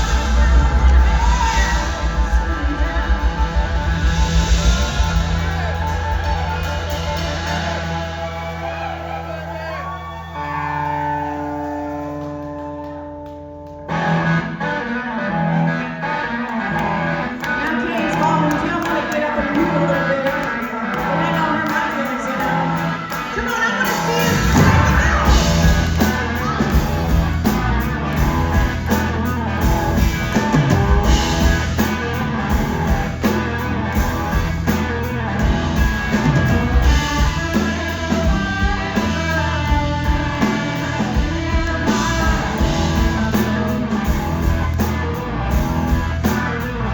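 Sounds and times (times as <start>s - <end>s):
blues-rock band playing: 0.0s - 46.9s
electric guitar: 0.0s - 46.9s.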